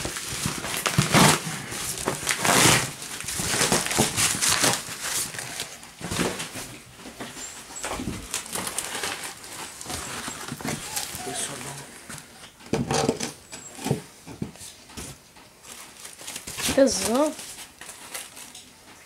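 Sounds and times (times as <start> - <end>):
cardboard and plastic rustling: 0.0 - 19.0.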